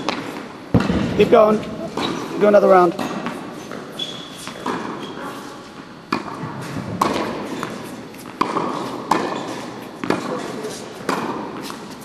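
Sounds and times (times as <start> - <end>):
racquet striking tennis balls: 0.0 - 12.0
tennis balls bouncing on hard court: 0.0 - 12.0.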